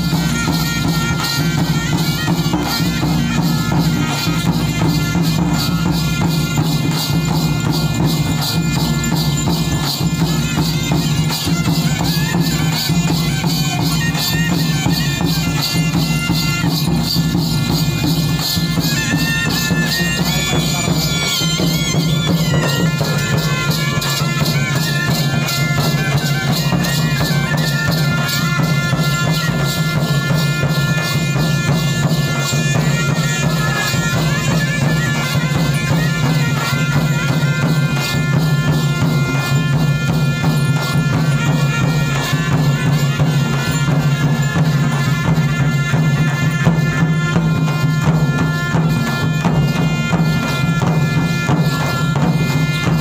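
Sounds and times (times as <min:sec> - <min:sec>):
frame drums beaten fast: 0:00.0 - 0:53.0
shrill reedy wind instrument: 0:00.0 - 0:53.0.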